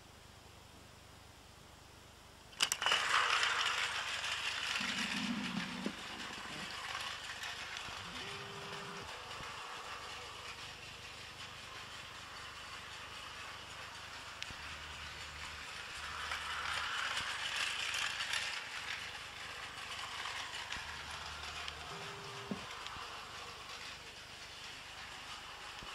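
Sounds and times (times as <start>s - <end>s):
toy train motor whirring: 2.6s - 25.9s.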